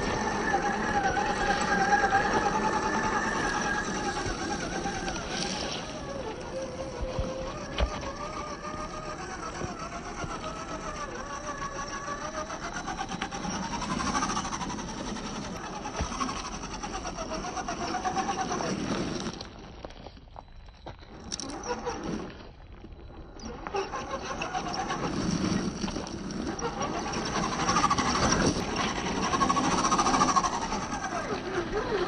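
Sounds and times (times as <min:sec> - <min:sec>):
rc car motor whining: 0:00.0 - 0:20.1, 0:20.8 - 0:32.0.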